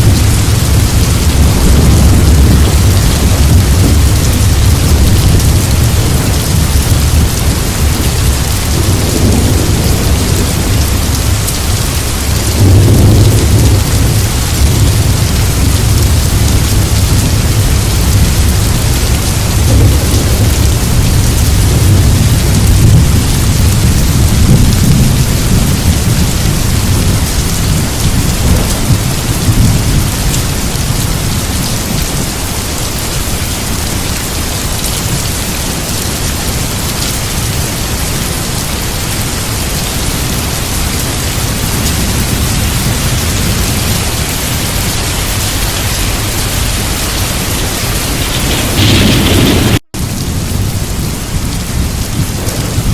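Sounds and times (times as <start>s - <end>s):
heavy rain: 0.0s - 52.9s
thunder rumbling: 0.0s - 52.9s.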